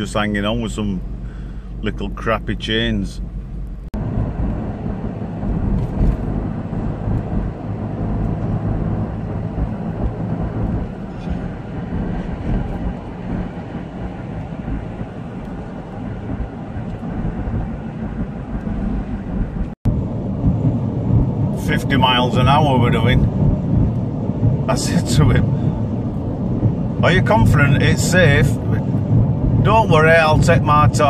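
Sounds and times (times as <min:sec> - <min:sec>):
tyres and engine rumble in car: 0:00.0 - 0:31.0.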